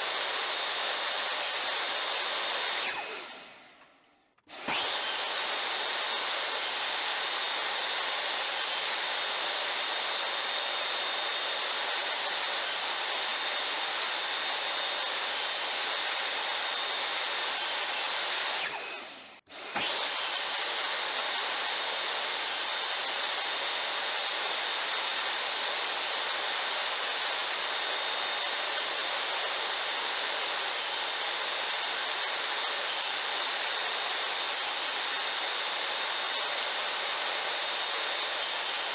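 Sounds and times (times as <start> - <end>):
electric power tool on wood: 0.0 - 38.9.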